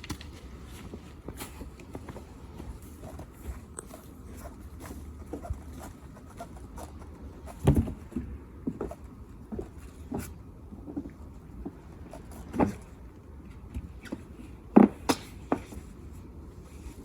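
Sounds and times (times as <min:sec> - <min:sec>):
low steady background noise: 0:00.0 - 0:17.0.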